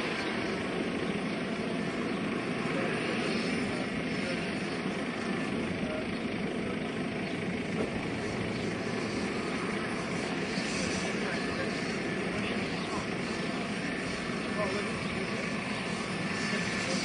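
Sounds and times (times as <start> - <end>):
model helicopter turbine running: 0.0 - 17.0.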